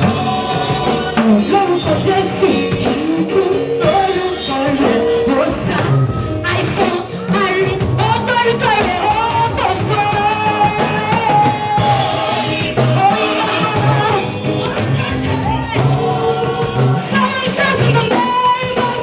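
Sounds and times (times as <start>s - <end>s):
drum kit: 0.0s - 19.0s
gospel choir singing: 0.0s - 19.0s
lead singer: 0.0s - 19.0s
live band playing: 0.0s - 19.0s.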